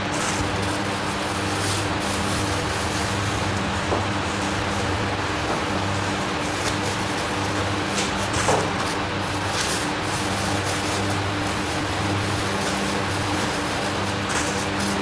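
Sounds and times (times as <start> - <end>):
electric machine hum: 0.0 - 15.0.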